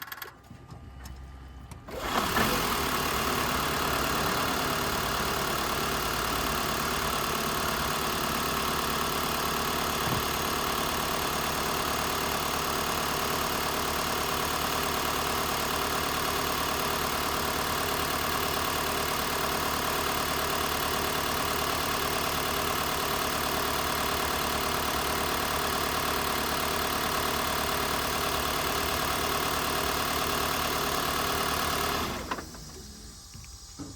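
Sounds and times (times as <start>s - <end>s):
car engine starting and idling: 0.0s - 33.3s.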